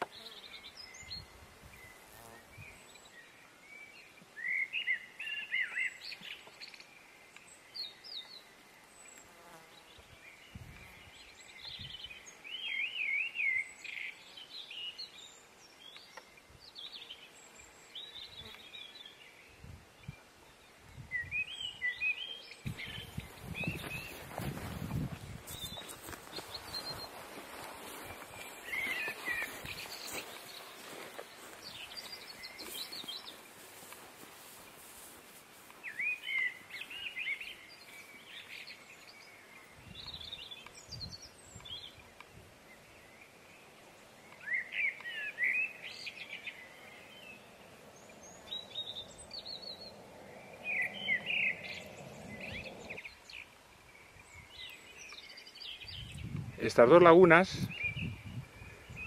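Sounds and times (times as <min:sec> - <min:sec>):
faint outdoor hiss: 0:00.0 - 0:59.0.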